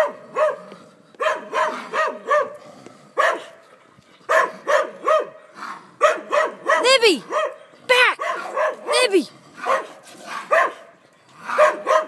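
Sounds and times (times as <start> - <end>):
dog barking: 0.0 - 2.6, 3.2 - 3.6, 4.3 - 7.6, 8.2 - 12.0.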